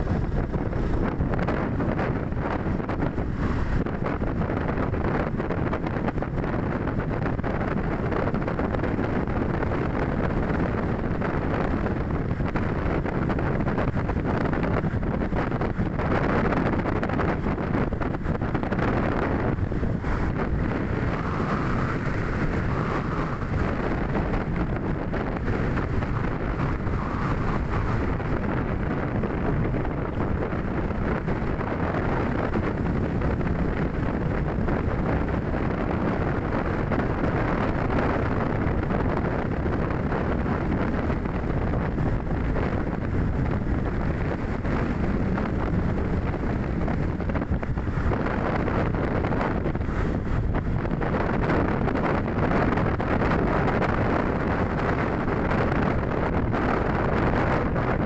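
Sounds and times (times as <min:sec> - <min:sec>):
road rumble: 0:00.0 - 0:58.0
wind rushing over microphone: 0:00.0 - 0:58.0.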